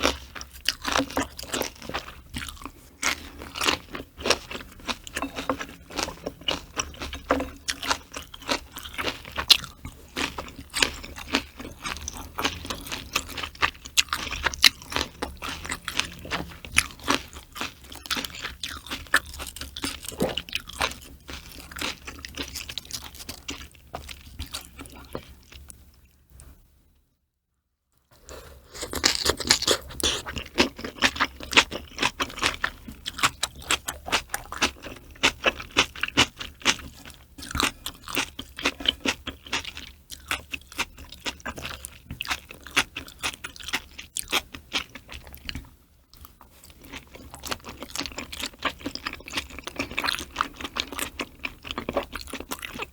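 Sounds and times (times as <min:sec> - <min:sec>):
chewing and crunching food: 0:00.0 - 0:26.6, 0:28.0 - 0:52.9.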